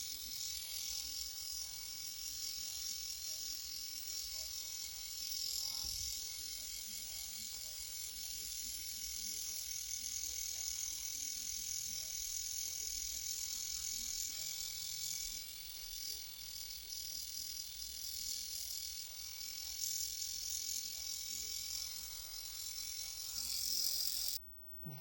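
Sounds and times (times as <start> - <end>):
eyebrow trimmer buzzing: 0.0 - 24.4.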